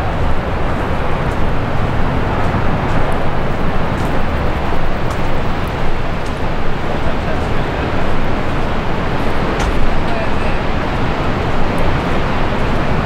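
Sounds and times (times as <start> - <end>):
surf against cliffs: 0.0 - 13.0
wind buffeting microphone: 0.0 - 13.0.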